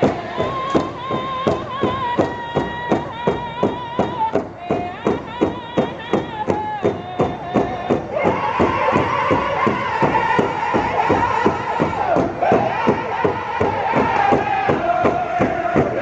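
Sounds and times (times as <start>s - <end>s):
group singing: 0.0s - 4.4s, 5.8s - 16.0s
large drum fast beat: 0.0s - 16.0s.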